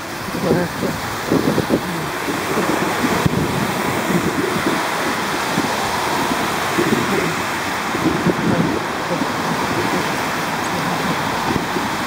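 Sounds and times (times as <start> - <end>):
rain hiss: 0.0 - 12.0
wind buffeting microphone: 0.0 - 12.0.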